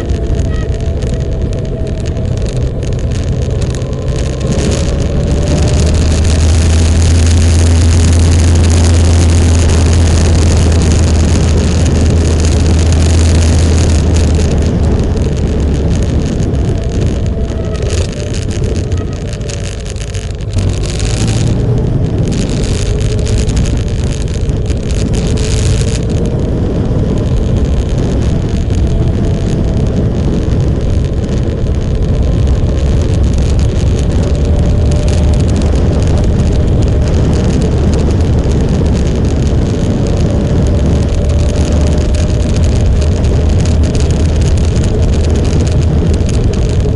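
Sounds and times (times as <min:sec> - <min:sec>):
motorcycle engine running: 0:00.0 - 0:46.9
wind rushing over microphone: 0:00.0 - 0:46.9.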